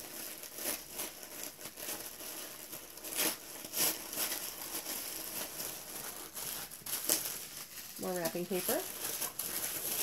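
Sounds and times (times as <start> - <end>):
tissue paper rustling: 0.0 - 10.0.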